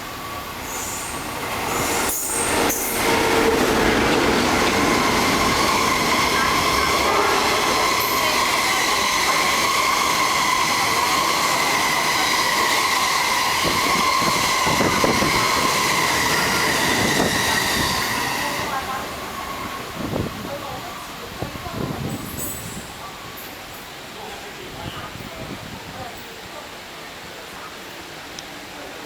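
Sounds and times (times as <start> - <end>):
train wheels rumbling on rails: 0.0 - 26.6.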